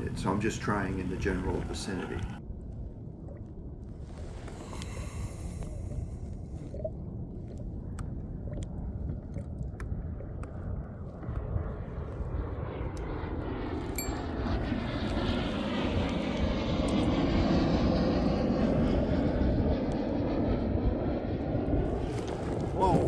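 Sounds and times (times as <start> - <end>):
airplane flying over: 0.0 - 23.0
low wind rumble: 0.0 - 23.0.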